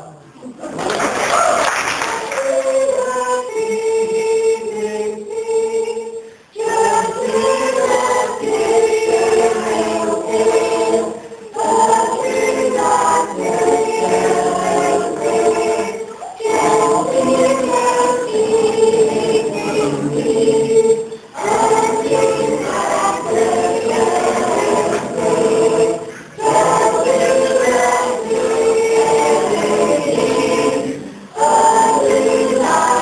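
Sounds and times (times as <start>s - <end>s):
choir singing unaccompanied: 0.0s - 33.0s.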